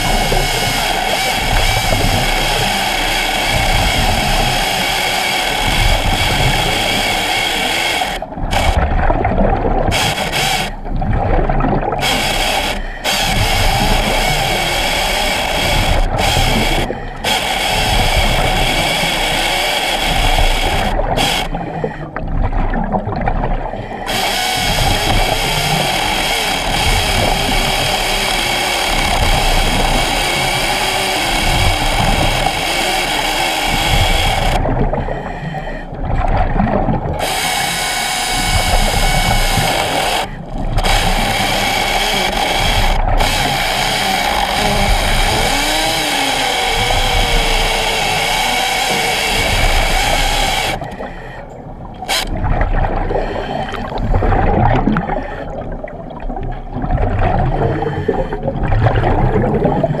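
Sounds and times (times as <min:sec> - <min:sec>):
hydraulic chainsaw whining underwater: 0:00.0 - 1:00.0.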